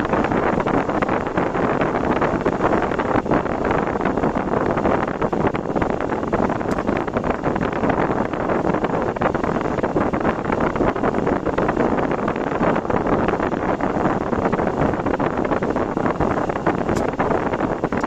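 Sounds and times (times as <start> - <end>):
vehicle driving on road: 0.0 - 18.0
wind on microphone: 0.0 - 18.0.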